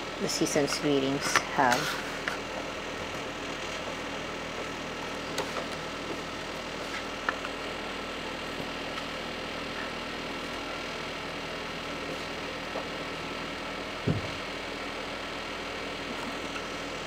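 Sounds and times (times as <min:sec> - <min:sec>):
mechanical room hum: 0:00.0 - 0:17.0.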